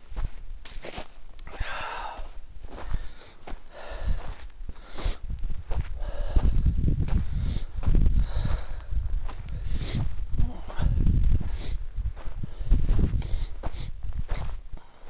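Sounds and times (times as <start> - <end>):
person breathing hard: 1.5 - 15.0
rumbling and bumps from walking: 2.4 - 15.0.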